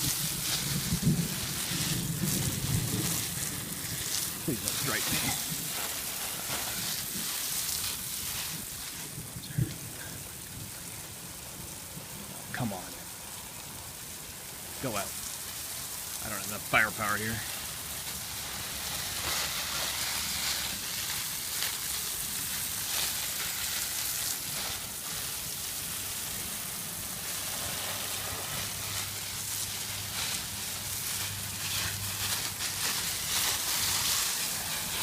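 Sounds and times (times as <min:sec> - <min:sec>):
falling rain: 0:00.0 - 0:35.0
garden hose spraying: 0:00.0 - 0:35.0.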